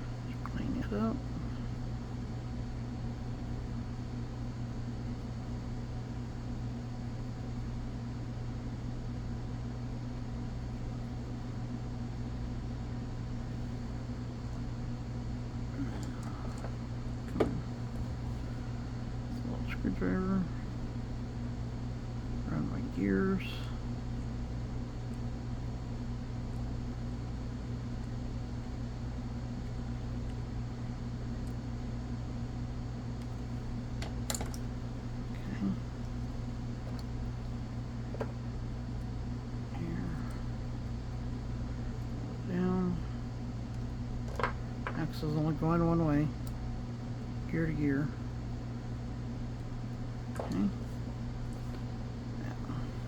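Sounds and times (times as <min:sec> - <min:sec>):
low steady hum with hiss: 0:00.0 - 0:53.0.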